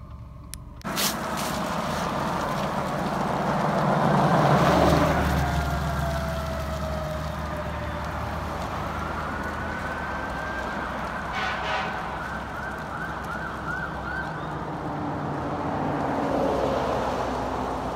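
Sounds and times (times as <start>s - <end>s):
traffic rumble: 0.0s - 17.9s
emergency sirens wailing and yelping: 1.2s - 17.9s.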